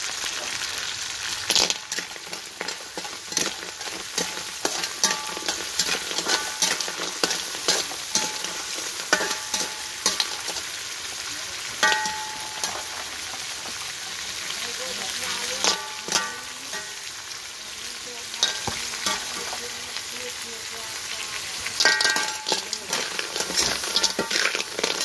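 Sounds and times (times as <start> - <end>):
snails sizzling in hot oil: 0.0 - 25.0
metal spatula scraping wok: 1.5 - 20.7, 21.4 - 25.0.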